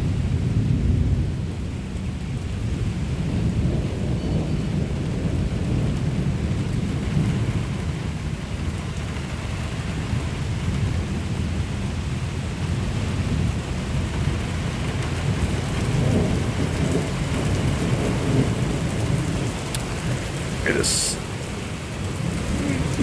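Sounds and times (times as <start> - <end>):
low thunder rumble: 0.0 - 23.0
steady rain: 0.0 - 23.0.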